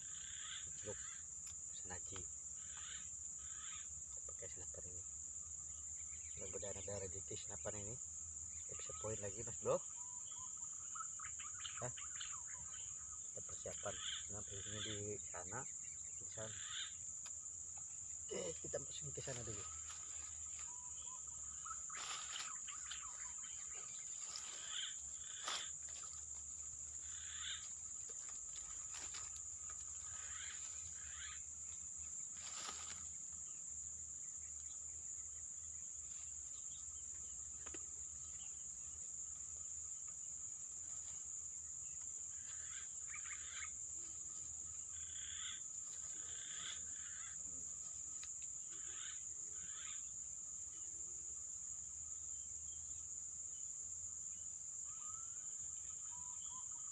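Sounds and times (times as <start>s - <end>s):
high-pitched insect drone: 0.0s - 56.9s.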